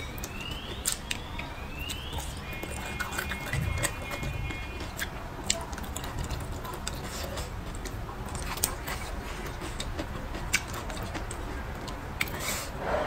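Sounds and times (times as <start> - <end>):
close chewing: 0.0 - 12.7.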